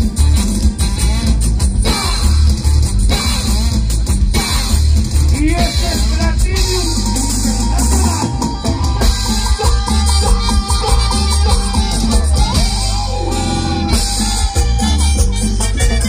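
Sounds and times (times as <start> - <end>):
guitar: 0.0 - 16.0
horn section: 0.0 - 16.0
latin dance orchestra playing: 0.0 - 16.0
pulsing bass beat: 0.0 - 16.0.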